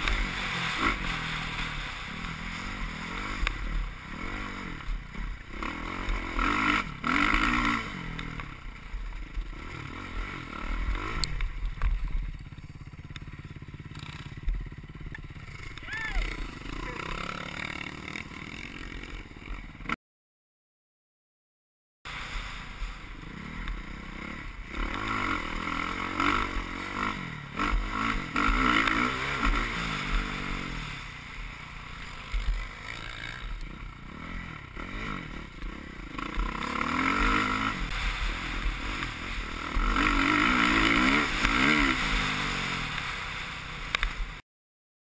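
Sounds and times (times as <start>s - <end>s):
motocross engine revving: 0.0s - 20.0s, 22.1s - 44.4s.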